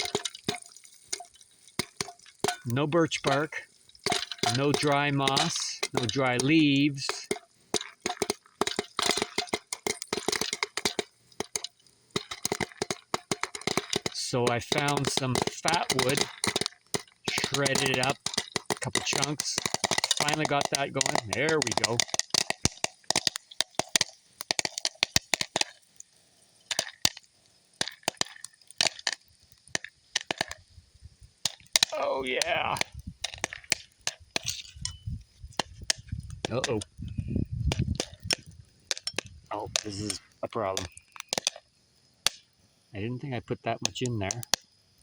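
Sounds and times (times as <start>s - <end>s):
campfire crackling and popping: 0.0s - 45.0s
faint steady hiss: 0.0s - 45.0s.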